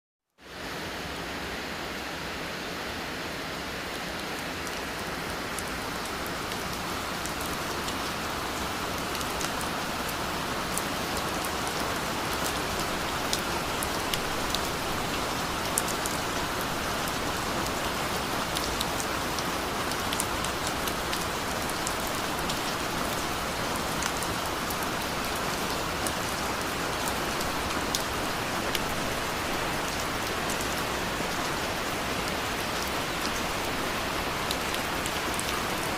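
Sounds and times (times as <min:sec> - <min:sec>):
steady rain hiss: 0:00.4 - 0:35.9.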